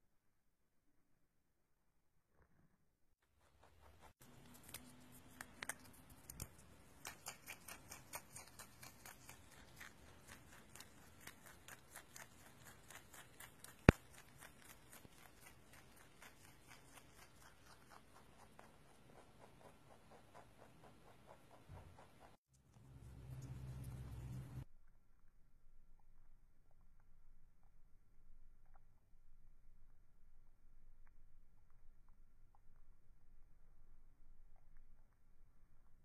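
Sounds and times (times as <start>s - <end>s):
rabbit chewing greens: 2.3s - 35.8s.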